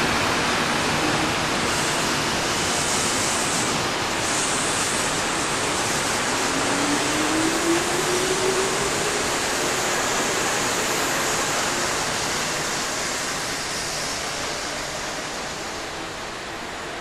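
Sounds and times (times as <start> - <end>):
train wheels on rail: 0.0 - 17.0.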